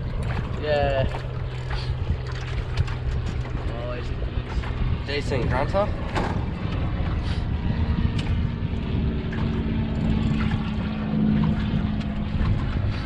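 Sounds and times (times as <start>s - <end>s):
motor hum: 0.0s - 13.0s
strong wind on microphone: 0.0s - 13.0s.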